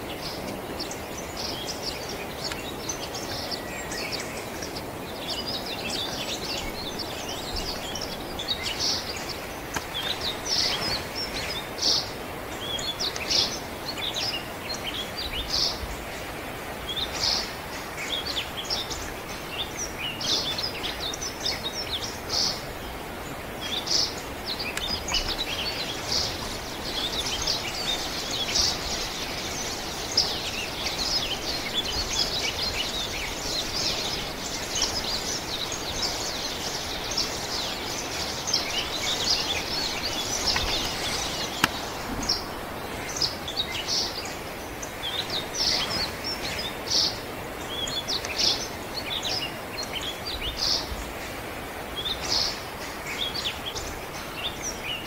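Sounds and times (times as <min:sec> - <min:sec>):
background hiss: 0:00.0 - 0:55.0
small birds chirping: 0:00.0 - 0:55.0.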